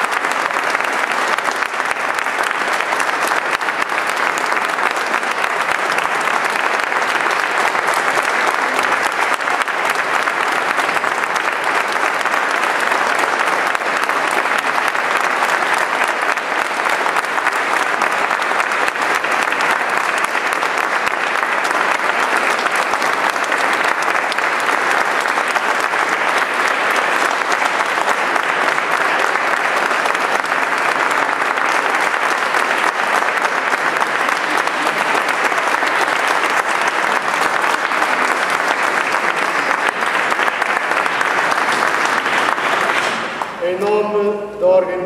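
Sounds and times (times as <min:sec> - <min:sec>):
audience applauding: 0:00.0 - 0:44.1.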